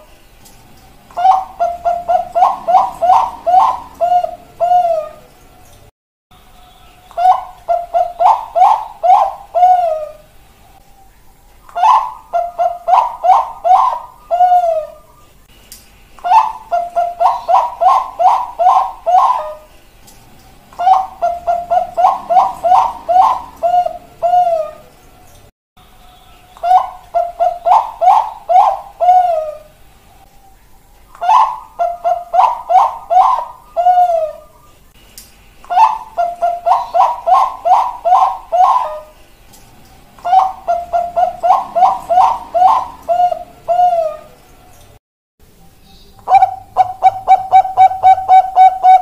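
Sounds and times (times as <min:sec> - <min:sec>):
dove cooing: 0:00.8 - 0:05.8, 0:07.2 - 0:15.4, 0:16.2 - 0:25.4, 0:26.6 - 0:30.6, 0:31.2 - 0:34.8, 0:35.6 - 0:39.3, 0:39.9 - 0:44.9, 0:46.2 - 0:49.0.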